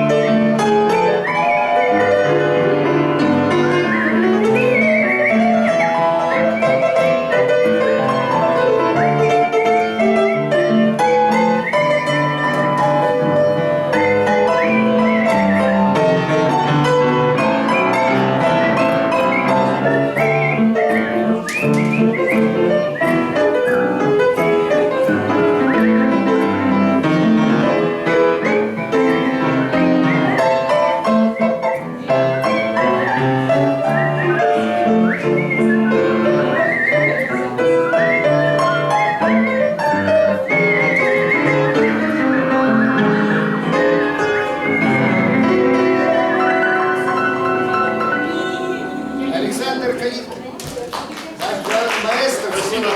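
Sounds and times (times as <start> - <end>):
piano: 0.0 - 52.9
person whistling a melody: 1.0 - 26.9, 29.4 - 49.0.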